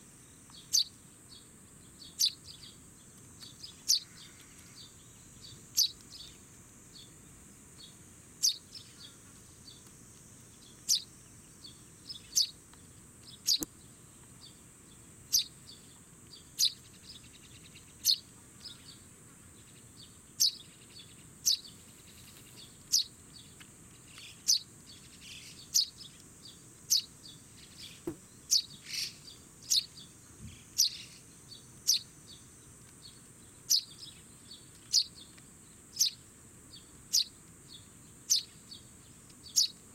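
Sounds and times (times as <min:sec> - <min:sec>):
steady high hiss: 0:00.0 - 0:39.9
sparrow chick chirping: 0:00.5 - 0:09.9, 0:10.5 - 0:12.6, 0:13.2 - 0:39.9.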